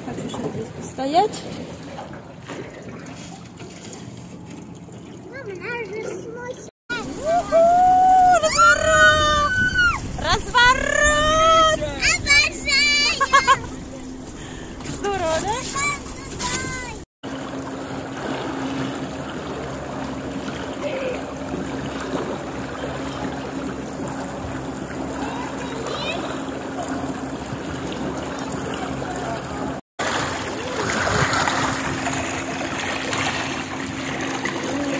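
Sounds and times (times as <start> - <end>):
electric outboard motor hum: 0.0 - 16.3, 17.2 - 34.9
water splashing along a hull: 0.0 - 34.9.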